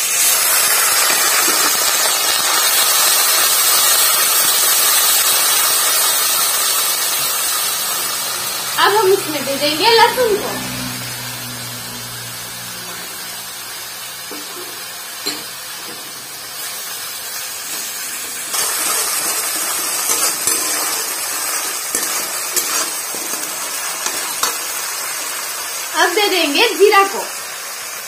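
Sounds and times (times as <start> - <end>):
paste sizzling in oil: 0.0 - 28.0.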